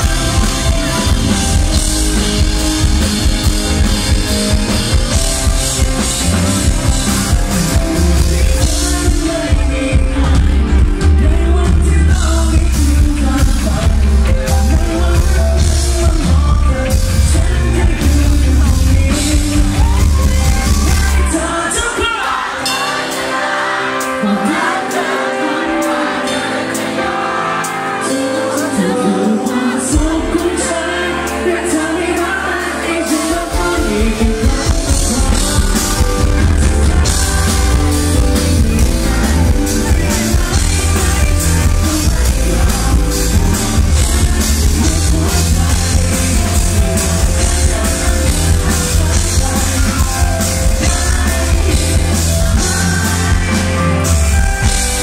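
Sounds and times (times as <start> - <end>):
bass guitar: 0.0 - 27.0, 27.6 - 55.0
drums: 0.0 - 55.0
man singing: 0.0 - 55.0
pop-rock band playing: 0.0 - 55.0.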